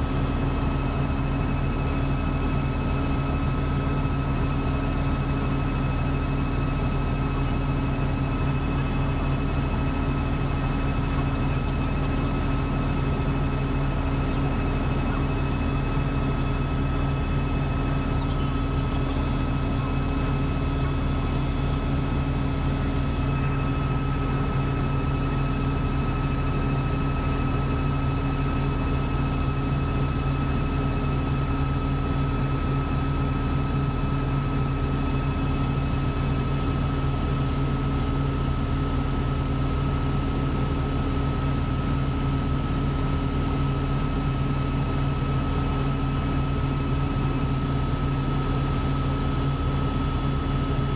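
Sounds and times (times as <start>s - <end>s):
helicopter rotor and engine drone: 0.0s - 50.9s.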